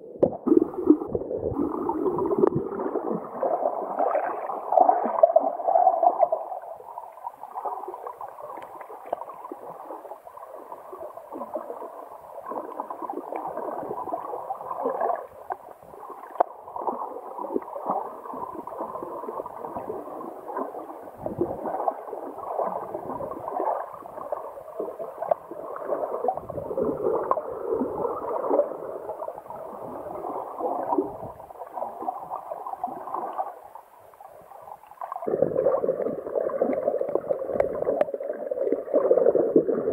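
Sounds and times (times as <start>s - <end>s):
muffled underwater gurgling: 0.0s - 39.9s.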